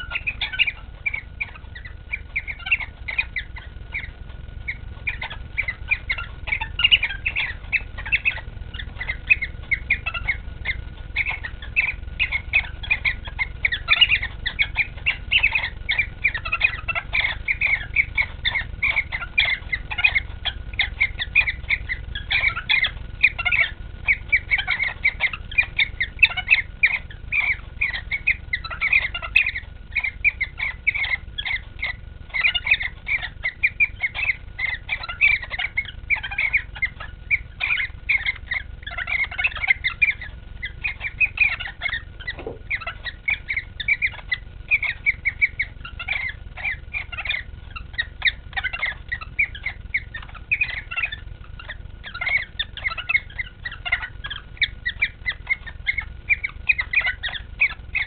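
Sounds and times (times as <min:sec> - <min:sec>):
cockatiels chirping: 0:00.0 - 0:58.0.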